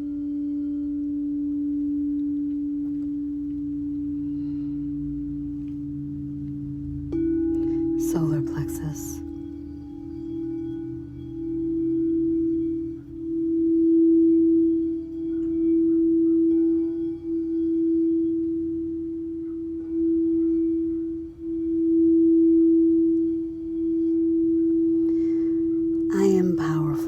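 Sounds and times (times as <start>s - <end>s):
singing bowl low tone: 0.0s - 27.0s.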